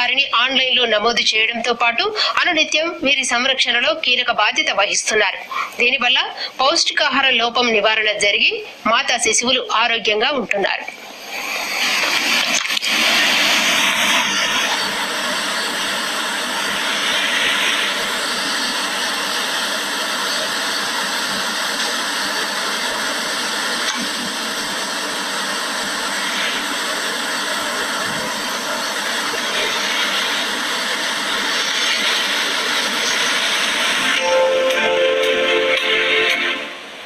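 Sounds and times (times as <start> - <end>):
steady hissing noise: 0.0 - 37.0.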